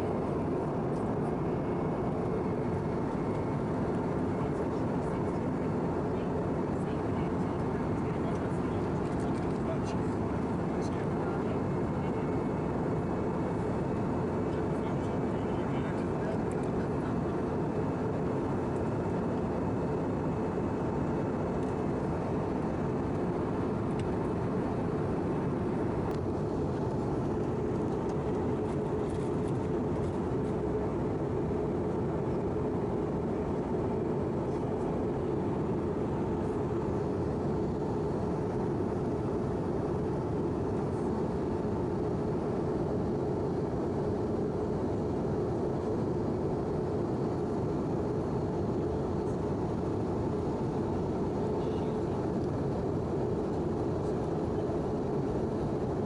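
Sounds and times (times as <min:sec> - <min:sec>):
airplane engine hum: 0:00.0 - 0:56.0.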